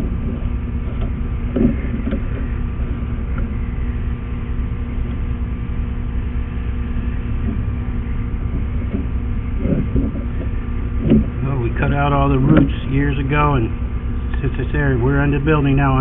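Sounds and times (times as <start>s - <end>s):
electrical hum: 0.0s - 16.0s
low mechanical rumble: 0.0s - 16.0s.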